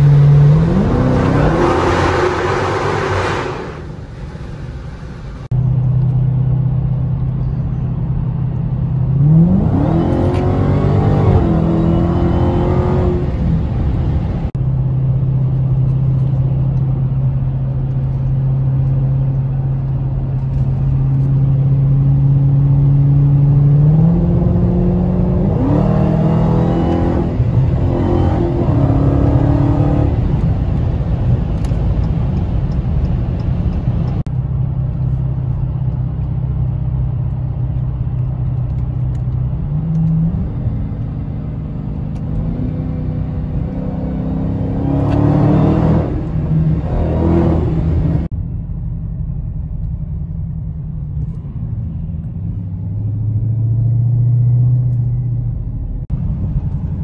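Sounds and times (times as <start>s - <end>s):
car engine from inside cabin: 0.0s - 2.2s, 4.6s - 57.0s.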